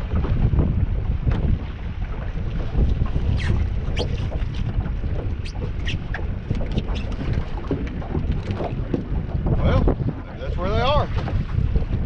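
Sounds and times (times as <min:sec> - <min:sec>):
water slapping and splashing on hull: 0:00.0 - 0:12.0
wind rumbling on microphone: 0:00.0 - 0:12.0.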